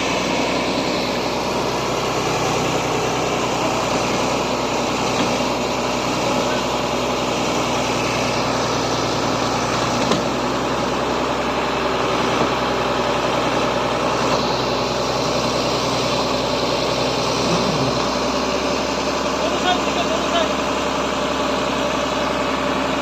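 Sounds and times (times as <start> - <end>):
heavy vehicle engine idling: 0.0 - 23.0.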